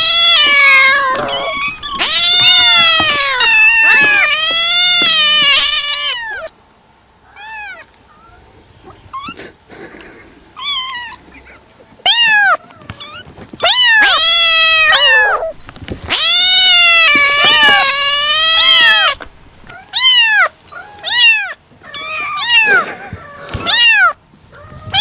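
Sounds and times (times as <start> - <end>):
cats meowing: 0.0 - 6.5, 7.3 - 8.4, 10.6 - 25.0.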